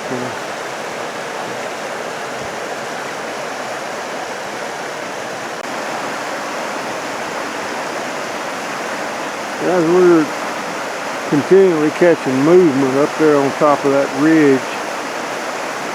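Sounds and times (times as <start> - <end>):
rain: 0.0 - 15.9
wind: 0.0 - 15.9.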